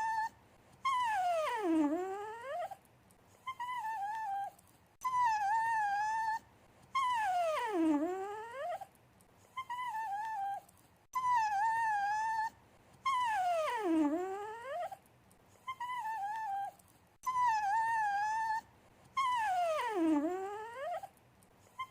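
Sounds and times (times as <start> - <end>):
dog whining: 0.0 - 21.9.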